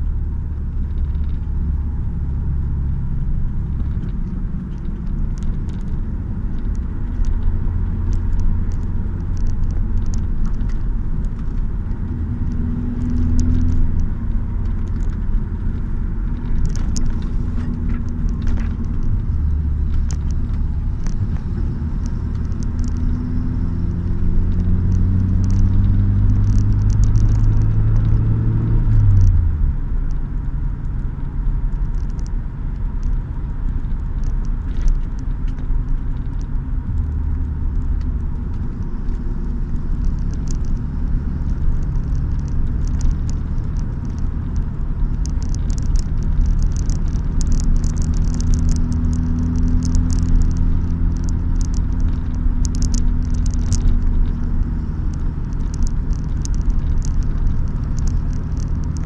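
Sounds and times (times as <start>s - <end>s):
car engine drone: 0.0s - 59.0s
crackly hiss: 0.0s - 59.0s
road noise: 0.0s - 59.0s.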